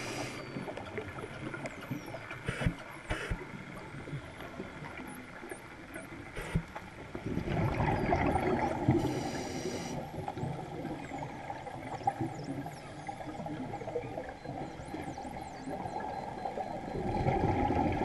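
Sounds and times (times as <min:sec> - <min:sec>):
underwater bubbles gurgling: 0:00.0 - 0:18.0.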